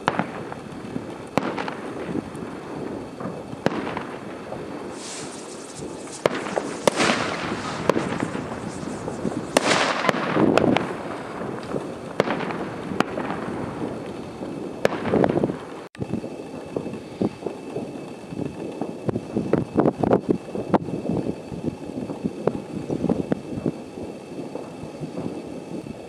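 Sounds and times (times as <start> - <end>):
fireworks bangs: 0.0 - 26.0
fireworks hissing and crackling: 0.0 - 26.0.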